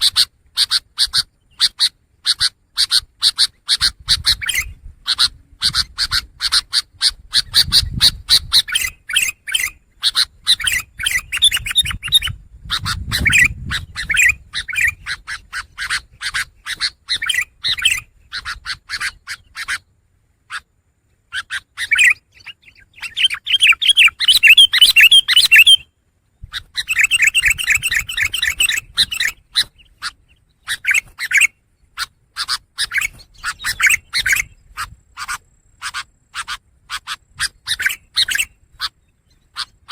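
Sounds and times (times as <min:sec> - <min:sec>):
shrike chattering song: 0:00.0 - 0:19.9, 0:21.3 - 0:39.9.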